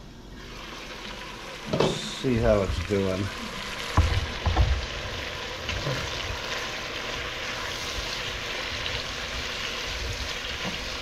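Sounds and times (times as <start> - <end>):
bacon sizzling in pot: 0.4 - 11.0.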